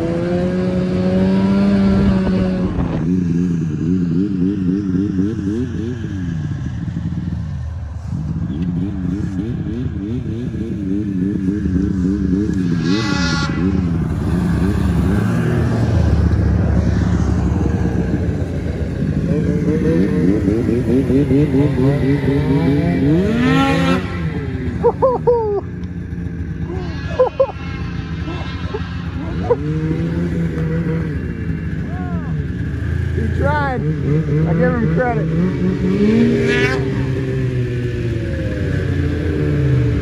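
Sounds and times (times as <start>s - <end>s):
snowmobile engine running: 0.0s - 40.0s.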